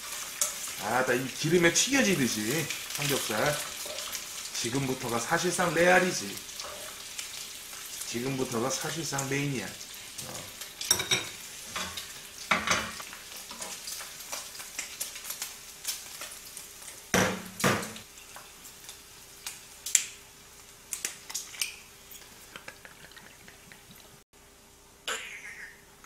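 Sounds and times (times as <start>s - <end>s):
meat sizzling in a frying pan: 0.0s - 22.4s.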